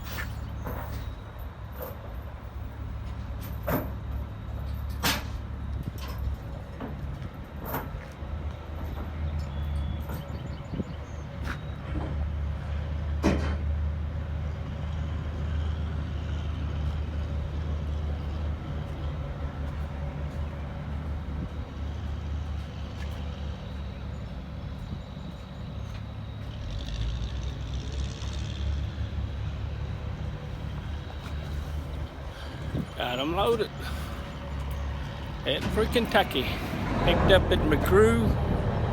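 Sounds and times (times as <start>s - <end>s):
heavy engine droning: 0.0s - 38.9s.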